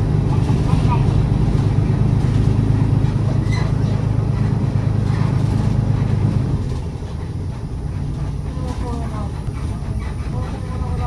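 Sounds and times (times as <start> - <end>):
bus engine drone inside cabin: 0.0 - 11.0.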